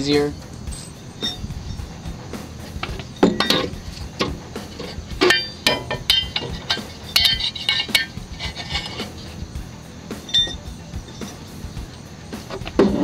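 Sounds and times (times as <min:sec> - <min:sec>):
metal parts clinking and clanking: 0:00.0 - 0:01.8, 0:02.6 - 0:09.4, 0:10.2 - 0:13.0.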